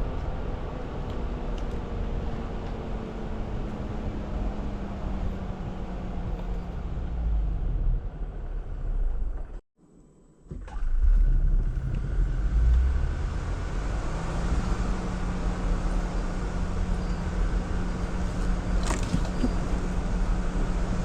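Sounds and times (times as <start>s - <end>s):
engine and drivetrain rumble: 0.0s - 9.6s, 10.5s - 21.0s.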